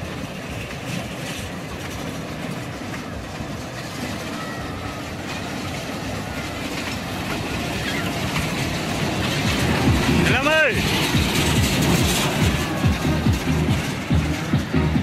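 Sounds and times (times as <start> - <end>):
toy train rumbling on track: 0.0 - 15.0.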